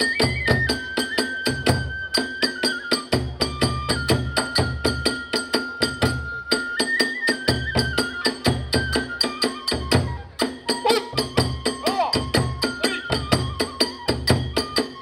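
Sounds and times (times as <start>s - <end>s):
bamboo flute long notes: 0.0s - 15.0s.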